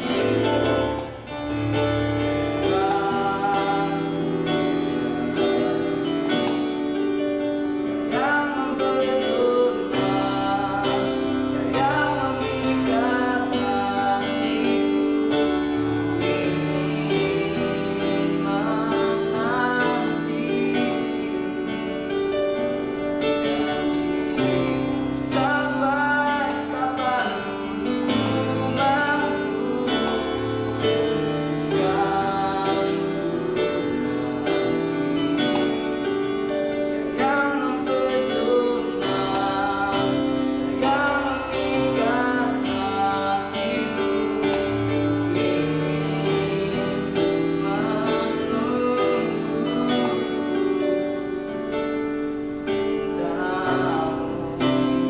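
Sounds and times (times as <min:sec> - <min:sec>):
keyboard playing slow tune: 0:00.0 - 0:55.0.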